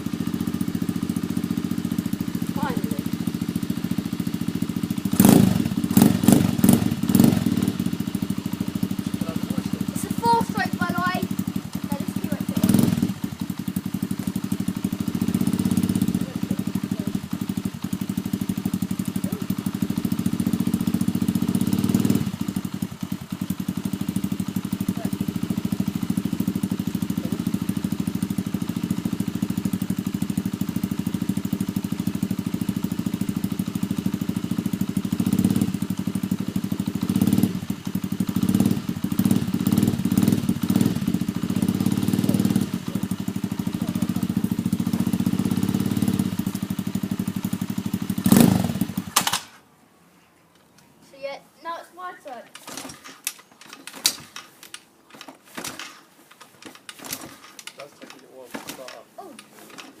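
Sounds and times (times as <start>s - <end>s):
dirt bike engine idling: 0.0s - 49.6s, 52.0s - 60.0s.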